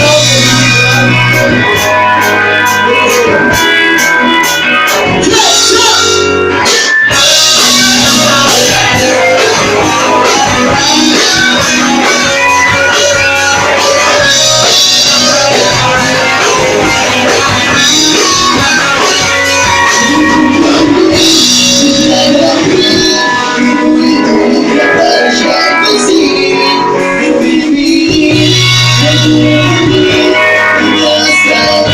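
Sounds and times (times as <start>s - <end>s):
rock band playing loudly: 0.0s - 31.9s.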